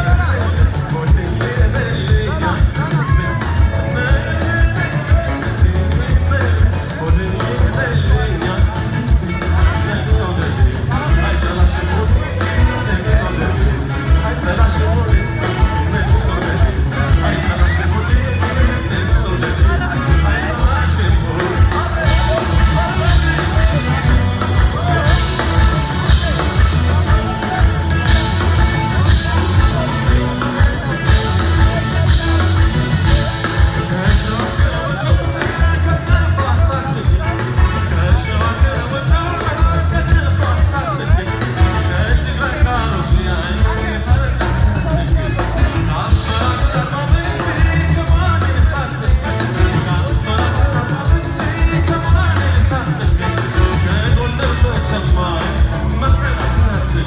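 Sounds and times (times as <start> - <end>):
live pop band playing: 0.0 - 57.0
man singing: 0.0 - 57.0.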